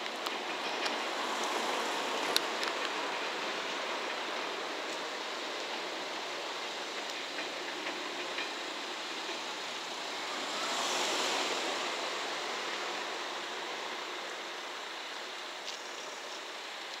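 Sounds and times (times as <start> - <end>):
electric train rushing along tracks: 0.0 - 17.0.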